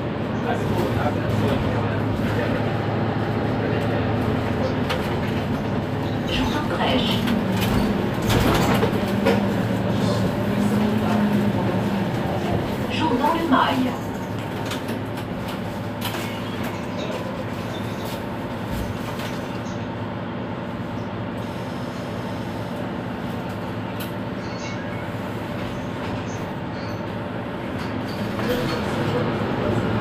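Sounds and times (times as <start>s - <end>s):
bus engine idling: 0.0s - 30.0s.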